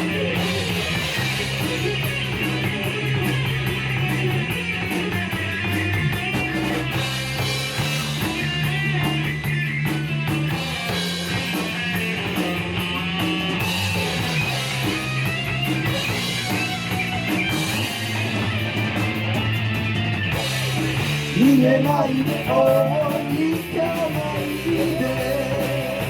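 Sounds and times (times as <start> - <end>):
bass: 0.0 - 26.0
drum kit with cymbal hits: 0.0 - 26.0
electric guitar: 0.0 - 26.0.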